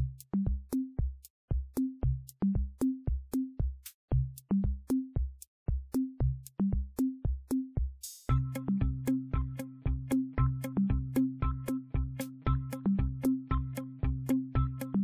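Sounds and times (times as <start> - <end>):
electronic music drum-machine beat: 0.0 - 15.0.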